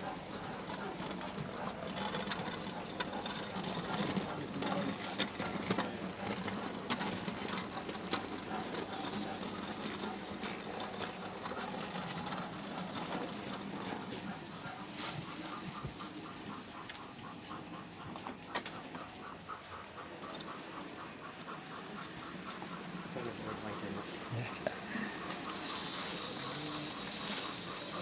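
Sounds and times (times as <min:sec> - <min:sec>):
model train motor whirring: 0:00.0 - 0:28.0
wheels clicking: 0:00.0 - 0:28.0.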